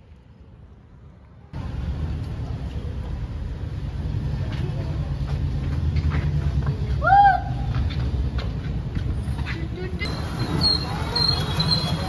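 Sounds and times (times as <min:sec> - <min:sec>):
low vehicle rumble: 0:01.6 - 0:12.0.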